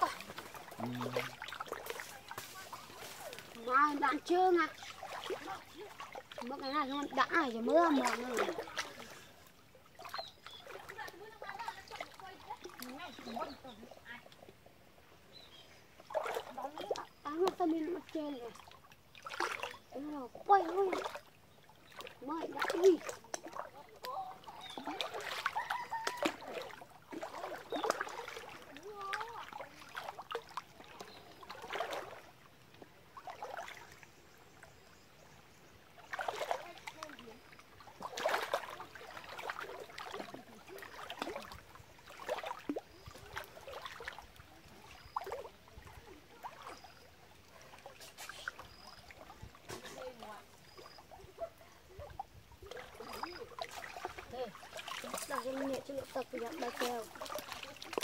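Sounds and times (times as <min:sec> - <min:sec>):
feet wading through water: 0:00.0 - 0:58.0.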